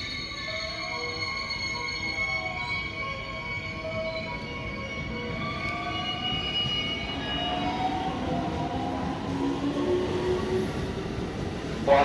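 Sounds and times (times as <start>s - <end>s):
train rumbling: 0.7s - 12.0s.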